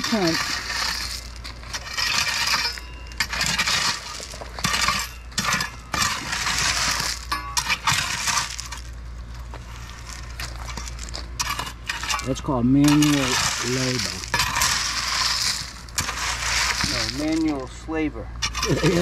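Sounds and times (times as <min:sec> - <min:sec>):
rake scraping through rocks: 0:00.0 - 0:17.8, 0:18.4 - 0:19.0.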